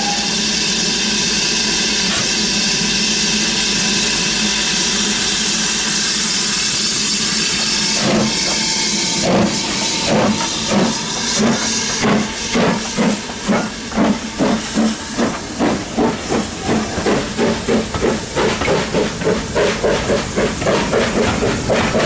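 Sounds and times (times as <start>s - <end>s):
steam hissing: 0.0s - 22.0s
steam locomotive exhaust chuffs: 0.0s - 22.0s.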